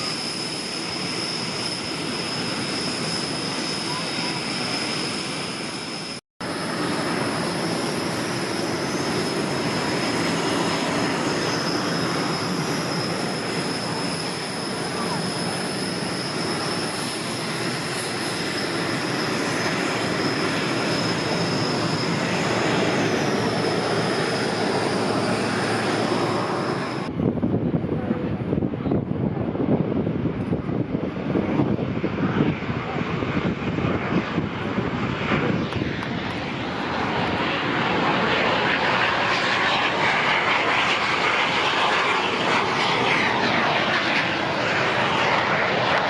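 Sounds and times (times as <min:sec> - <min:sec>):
jet engines whining: 0:00.0 - 0:46.0.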